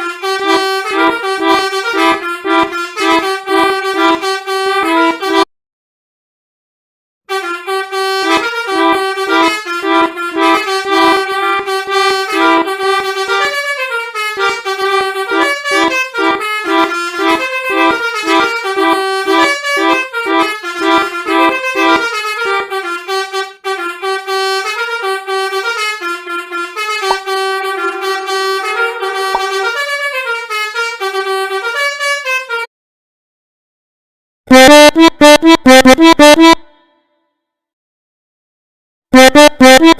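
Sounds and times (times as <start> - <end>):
melodica playing a tune: 0.0 - 5.5, 7.3 - 32.5, 34.5 - 36.8, 39.2 - 39.9.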